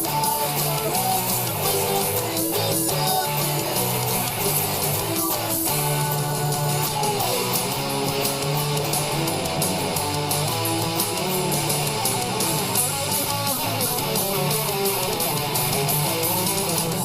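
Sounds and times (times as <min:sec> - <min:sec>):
distorted electric guitar riffs: 0:00.0 - 0:17.0.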